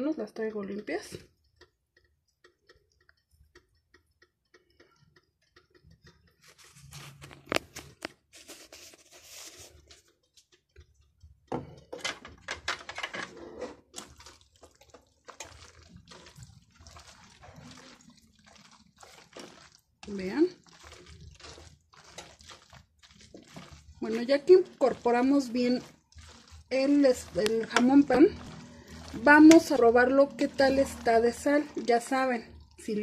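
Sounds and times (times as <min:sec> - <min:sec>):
wet clicks and crackles of food: 0:00.1 - 0:08.4, 0:09.6 - 0:13.2, 0:13.8 - 0:33.0.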